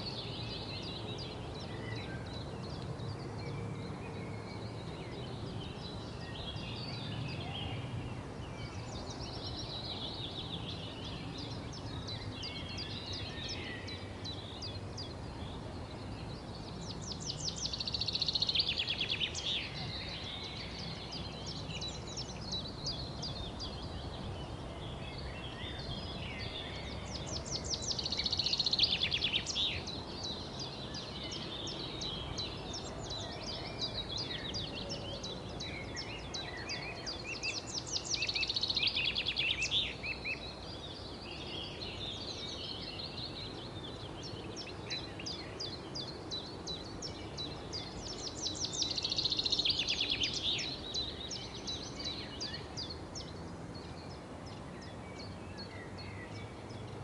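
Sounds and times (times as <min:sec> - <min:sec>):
low background hiss: 0:00.0 - 0:57.0
rapid trilling birdsong: 0:00.0 - 0:57.0
songbirds chirping: 0:00.0 - 0:57.0.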